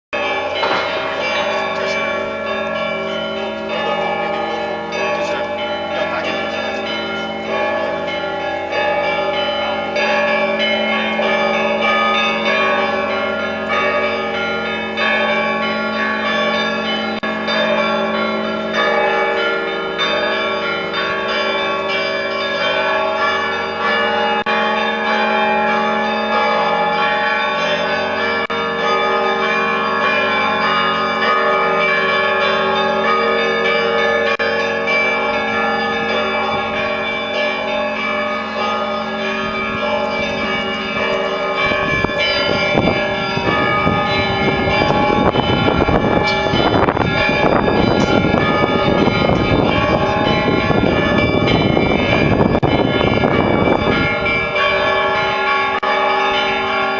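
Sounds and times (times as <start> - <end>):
church bells ringing: 0.1 - 56.9.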